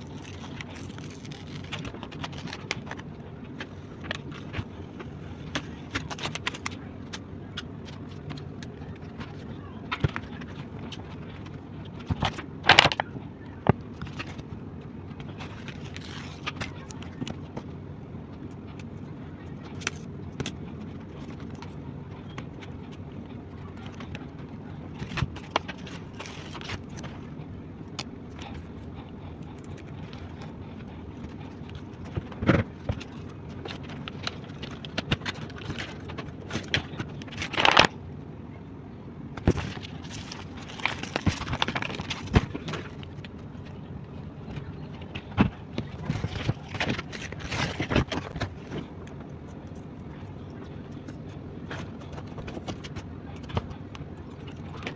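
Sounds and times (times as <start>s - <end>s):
low background hum: 0.0s - 54.9s.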